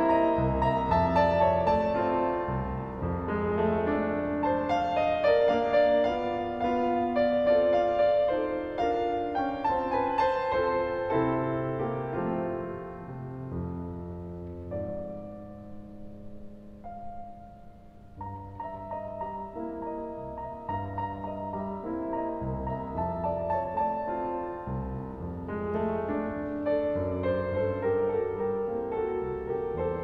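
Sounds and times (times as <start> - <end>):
solo piano playing: 0.0 - 30.0.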